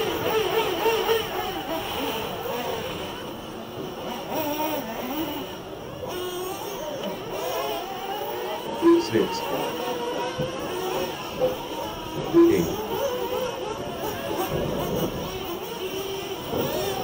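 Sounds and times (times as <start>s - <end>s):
model car engines whining: 0.0s - 17.0s.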